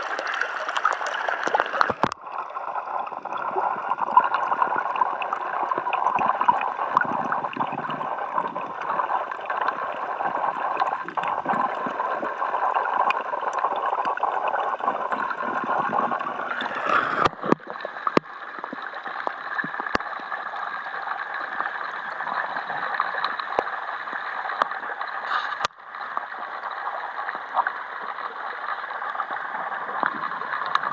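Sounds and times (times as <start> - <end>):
water gurgling and rushing: 0.0 - 30.9.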